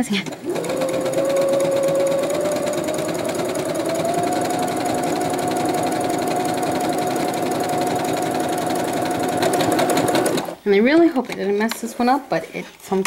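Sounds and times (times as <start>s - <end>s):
sewing machine stitching: 0.0s - 10.6s.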